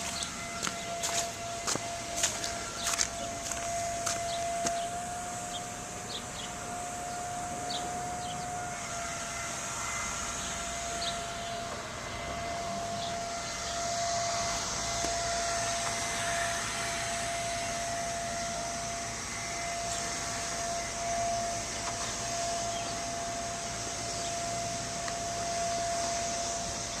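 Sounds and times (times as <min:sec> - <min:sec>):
machine whine: 0:00.0 - 0:27.0.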